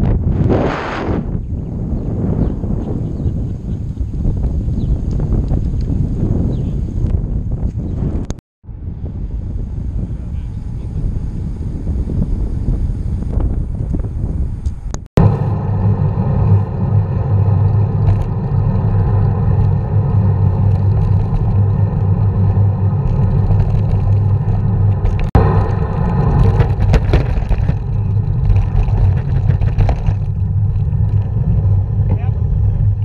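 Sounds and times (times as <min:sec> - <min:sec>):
bicycle tyre rumble: 0:00.0 - 0:33.0
wind buffeting: 0:00.0 - 0:33.0.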